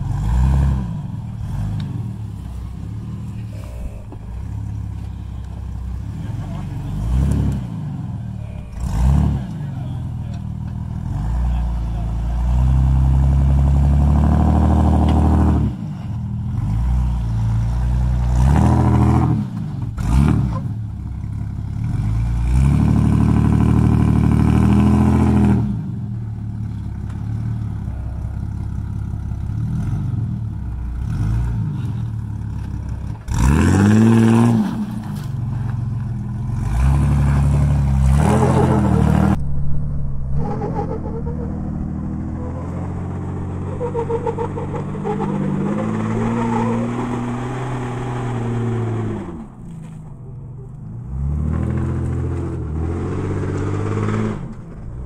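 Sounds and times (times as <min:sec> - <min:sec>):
engine revving: 0:00.0 - 0:26.0, 0:27.0 - 0:55.0.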